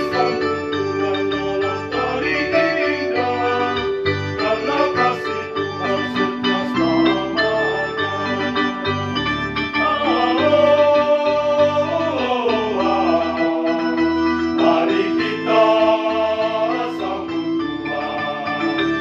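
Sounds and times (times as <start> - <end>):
choir singing: 0.0 - 19.0
electronic keyboard: 0.0 - 19.0.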